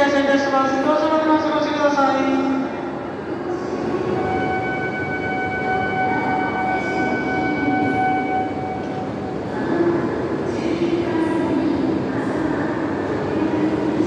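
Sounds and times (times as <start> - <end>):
low station rumble: 0.0 - 14.0.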